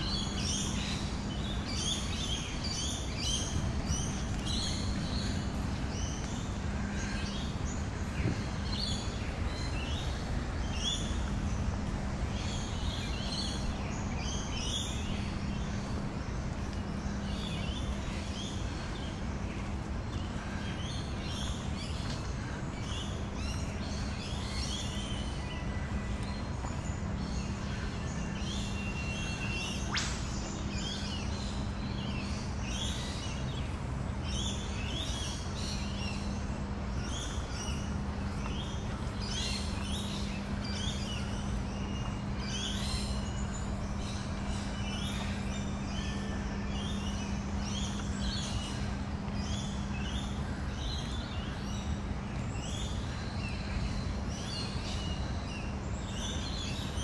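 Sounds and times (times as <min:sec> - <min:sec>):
birds chirping: 0:00.0 - 0:57.0
city background hum: 0:00.0 - 0:57.0.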